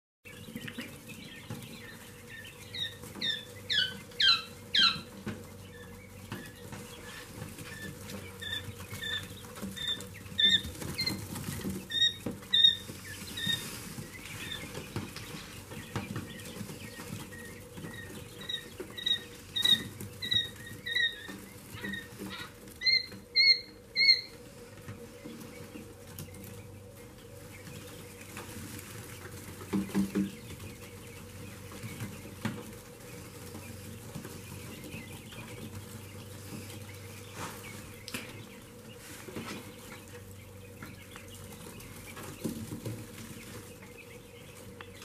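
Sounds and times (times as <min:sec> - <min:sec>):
quail chicks peeping: 0:00.2 - 0:45.0
faint steady hum: 0:00.3 - 0:45.0.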